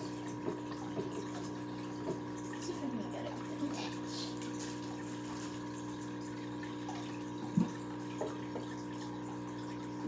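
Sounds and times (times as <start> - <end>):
aquarium filter humming: 0.0 - 10.0
water trickling: 0.0 - 10.0.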